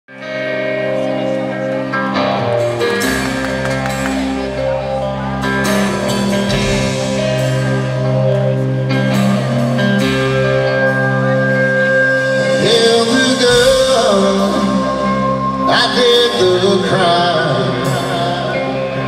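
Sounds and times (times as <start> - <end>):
guitar chords: 0.1 - 19.0
live country band playing: 0.1 - 19.0.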